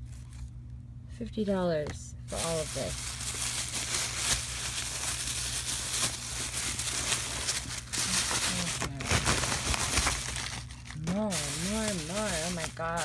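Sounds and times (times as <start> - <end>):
plastic bag crinkling: 2.3 - 13.0.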